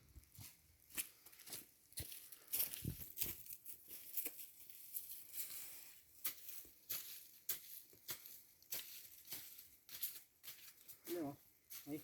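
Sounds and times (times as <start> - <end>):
crunching footsteps: 0.0 - 12.0.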